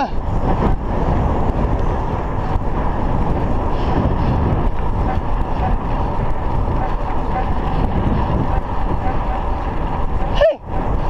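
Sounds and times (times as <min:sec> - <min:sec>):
bike tyres rolling on asphalt: 0:00.0 - 0:11.0
wind buffeting microphone: 0:00.0 - 0:11.0.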